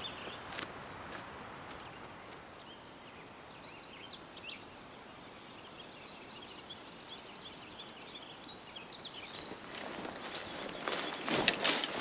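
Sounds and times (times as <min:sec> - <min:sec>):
small birds singing faintly: 0:00.0 - 0:12.0
soft steady hiss: 0:00.0 - 0:12.0.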